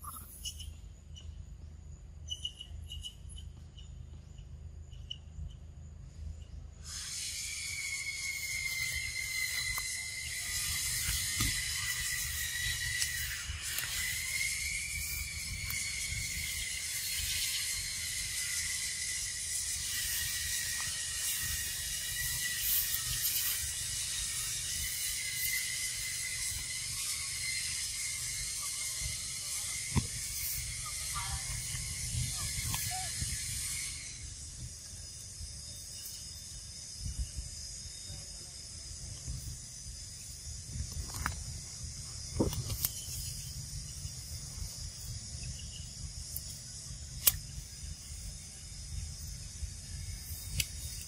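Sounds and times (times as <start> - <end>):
insect chorus buzzing: 0.0 - 51.0.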